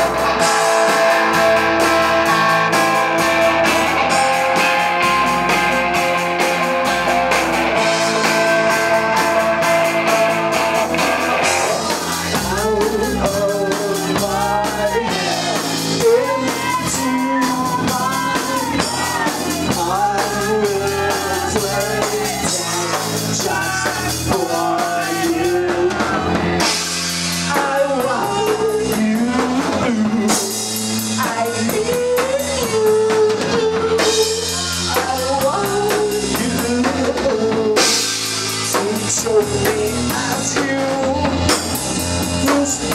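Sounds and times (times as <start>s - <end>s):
drums: 0.0s - 42.9s
electric guitar: 0.0s - 42.9s
man singing: 0.0s - 42.9s.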